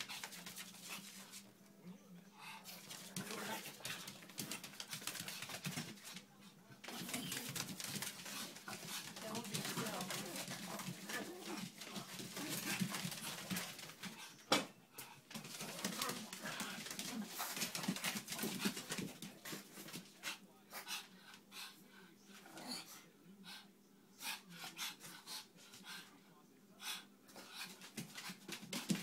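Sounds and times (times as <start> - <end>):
dogs play-wrestling noises: 0.0 - 1.5, 2.5 - 22.9, 27.0 - 29.0.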